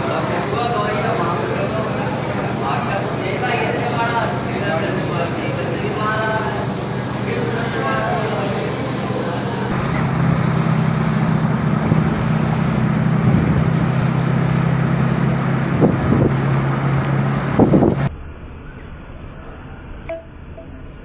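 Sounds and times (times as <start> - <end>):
rain: 0.0 - 9.7, 10.5 - 18.1
low engine hum: 0.0 - 18.1
wind: 0.0 - 21.0.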